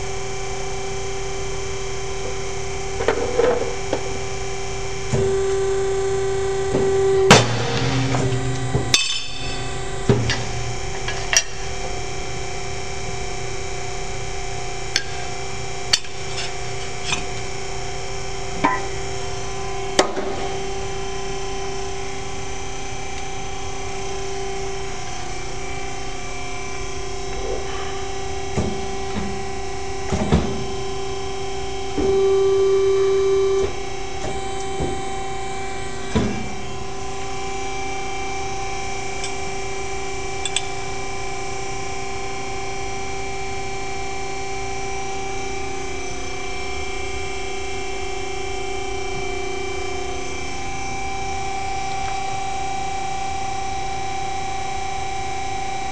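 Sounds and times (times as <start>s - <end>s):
hydraulic pump motor humming: 0.0s - 55.8s.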